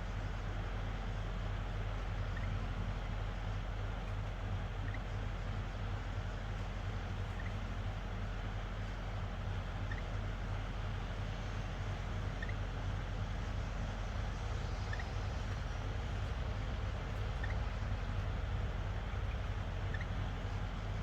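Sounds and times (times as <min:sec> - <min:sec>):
fan motor hum: 0:00.0 - 0:21.0.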